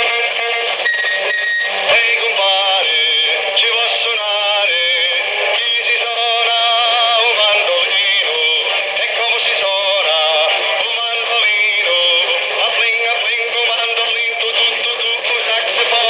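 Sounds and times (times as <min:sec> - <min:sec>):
music with singing over radio: 0:00.0 - 0:16.0.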